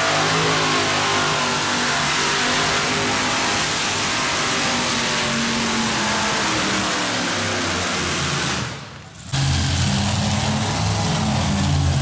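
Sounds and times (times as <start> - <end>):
racing tractor engine at high revs: 0.0 - 12.0.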